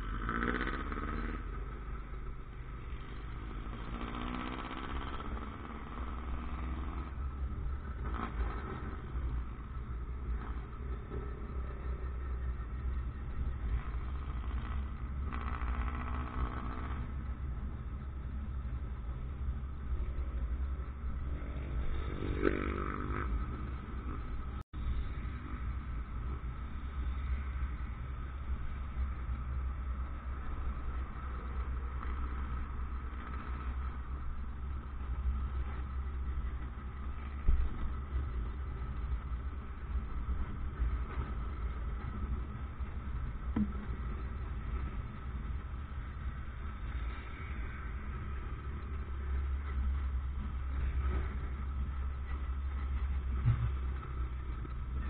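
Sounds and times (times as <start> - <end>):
motorcycle engine running: 0.0 - 55.0
street traffic: 0.0 - 55.0.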